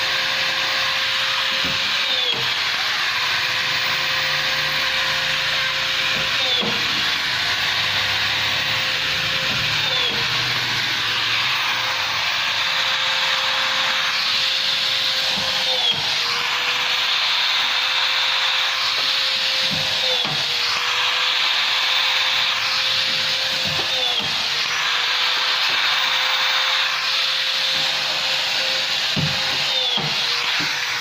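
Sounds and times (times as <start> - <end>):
power rivet gun whining: 0.0 - 31.0.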